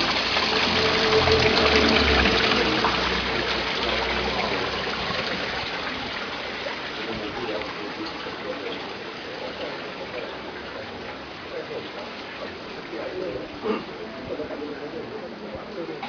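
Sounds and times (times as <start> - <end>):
waterfall splashing into pond: 0.0 - 15.2.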